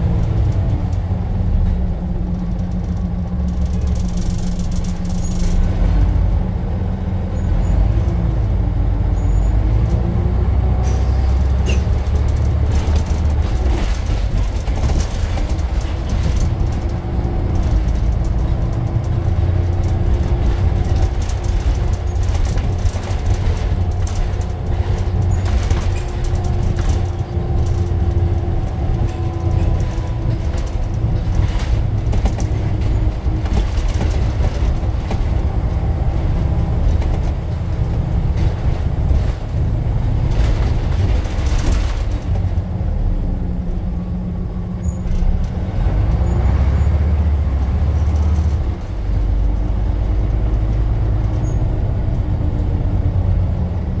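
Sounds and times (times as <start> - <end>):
bus body rattling and knocking: 0.0 - 54.0
bus engine droning with whine: 0.0 - 54.0.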